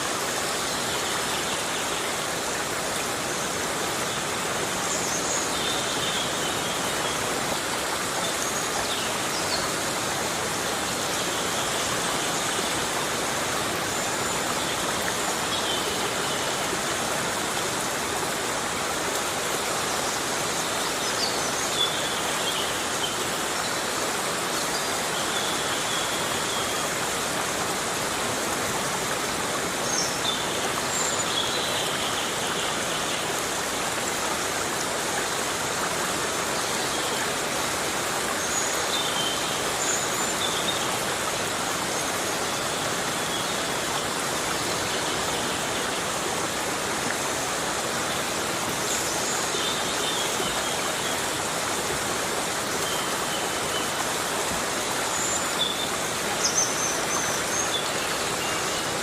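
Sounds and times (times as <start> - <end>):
heavy rain in a forest: 0.0 - 59.0.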